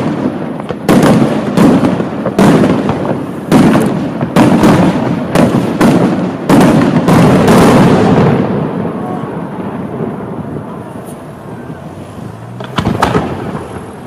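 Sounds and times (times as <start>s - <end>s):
fireworks bursting with rumble: 0.0s - 14.0s.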